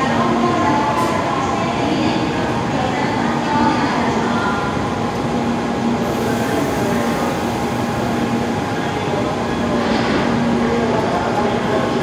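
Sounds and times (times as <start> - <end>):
train humming at platform: 0.0 - 12.0.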